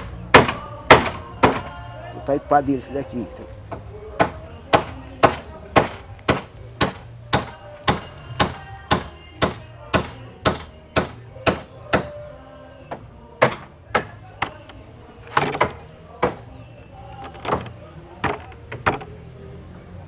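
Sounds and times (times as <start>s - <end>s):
hammer blows on wood: 0.0s - 1.9s, 3.7s - 19.2s.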